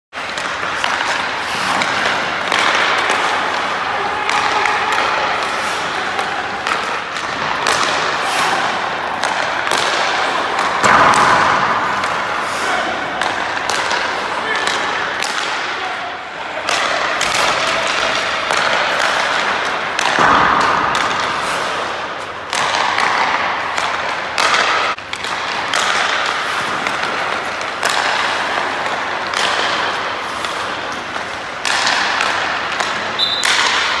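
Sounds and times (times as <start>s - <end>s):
pucks striking stick blades: 0.2s - 34.0s
skates scraping ice: 0.2s - 34.0s.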